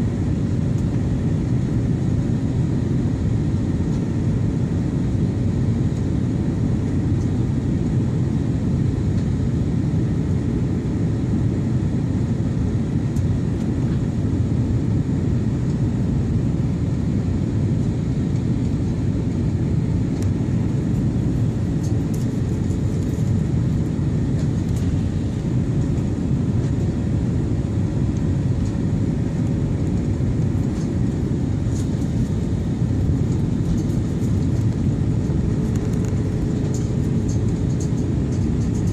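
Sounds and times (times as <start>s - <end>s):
airliner cabin roar: 0.0s - 38.9s
faint steady hum: 0.0s - 38.9s.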